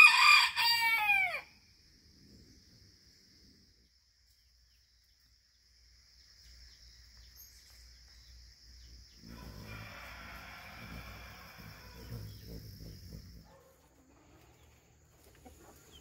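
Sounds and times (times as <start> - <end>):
faint bird chirps: 1.6 - 9.8, 11.2 - 16.0.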